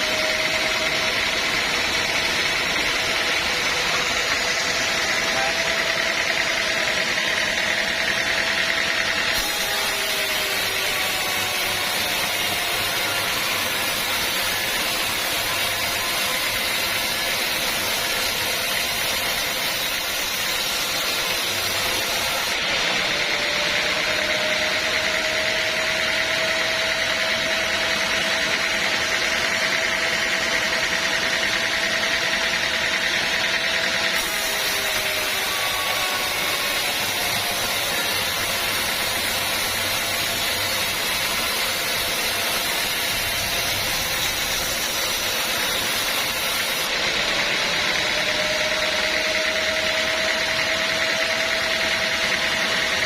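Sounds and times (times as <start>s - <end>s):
band sawmill whining: 0.0s - 53.0s.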